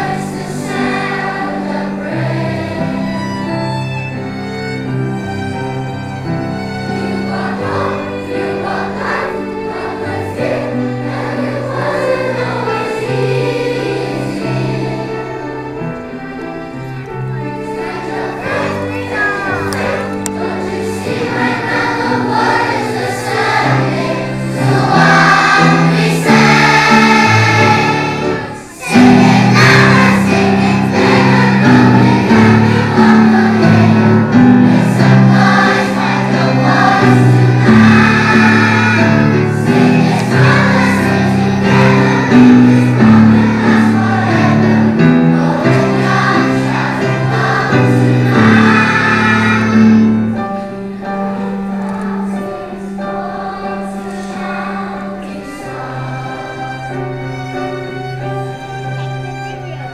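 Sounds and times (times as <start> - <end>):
children's choir singing: 0.0 - 59.9
piano: 0.0 - 59.9
string quartet: 0.0 - 59.9.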